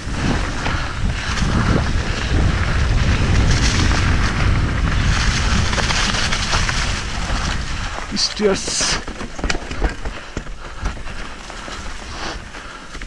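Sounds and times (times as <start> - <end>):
mountain bike rattle and tyre noise: 0.0 - 13.0
wind buffeting microphone: 0.0 - 13.0.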